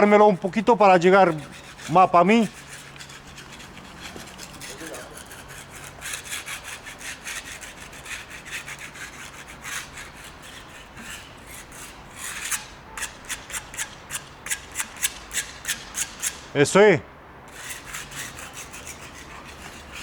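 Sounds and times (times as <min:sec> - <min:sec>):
rough scraping strokes: 0:00.0 - 0:16.5, 0:17.5 - 0:20.0.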